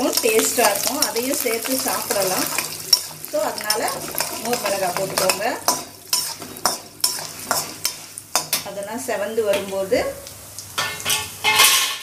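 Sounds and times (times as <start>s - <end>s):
metal ladle scraping a pan: 0.0s - 8.6s, 10.8s - 12.0s
seeds sizzling in hot oil: 0.0s - 12.0s.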